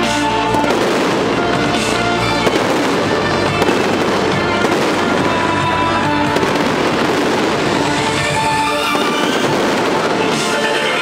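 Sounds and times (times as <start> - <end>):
fireworks crackling and popping: 0.0 - 11.0
music: 0.0 - 11.0.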